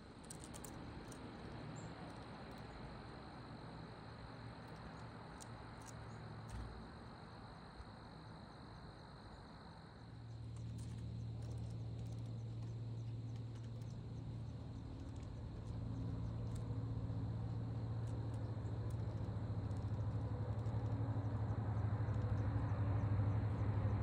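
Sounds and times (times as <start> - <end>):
crickets trilling: 0.0 - 24.0
low steady hum: 0.0 - 24.0
faint ticks: 0.2 - 3.0, 4.2 - 8.9, 10.2 - 22.8.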